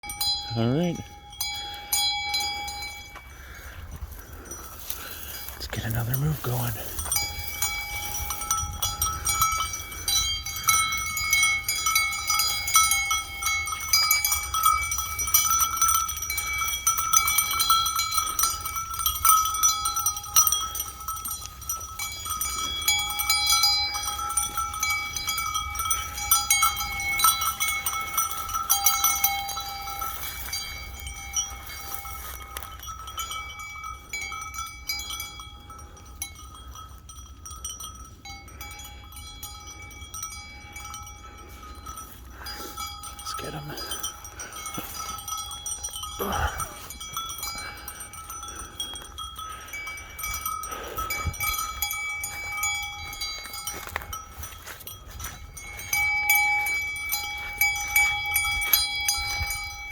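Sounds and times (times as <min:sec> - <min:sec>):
livestock bell clanking: 0:00.0 - 0:59.9.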